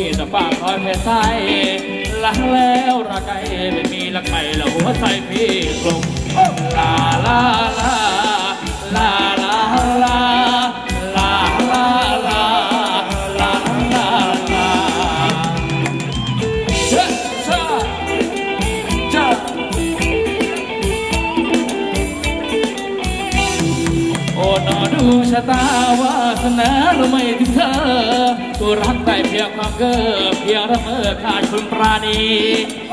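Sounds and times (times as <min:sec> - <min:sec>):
percussion beat: 0:00.0 - 0:32.9
person singing: 0:00.0 - 0:32.9.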